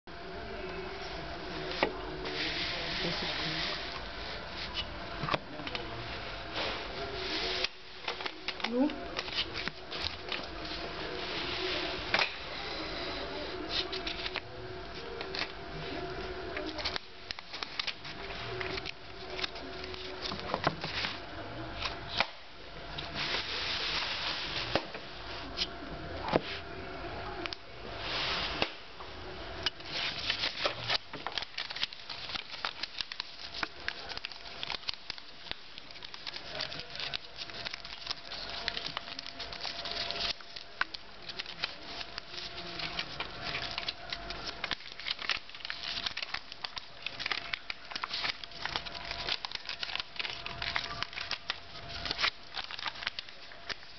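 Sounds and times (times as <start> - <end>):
faint steady hum: 0.0 - 53.9
paper crinkling and creasing: 1.0 - 22.4, 29.8 - 53.9.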